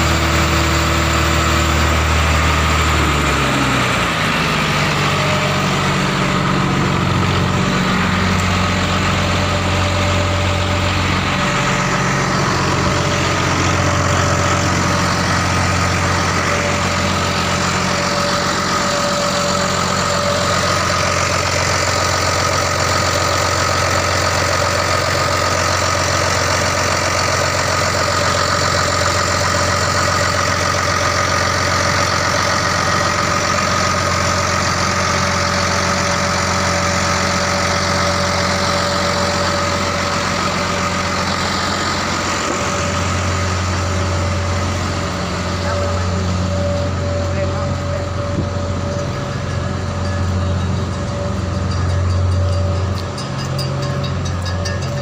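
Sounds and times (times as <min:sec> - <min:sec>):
heavy engine idling: 0:00.0 - 0:55.0
high whine: 0:00.0 - 0:55.0.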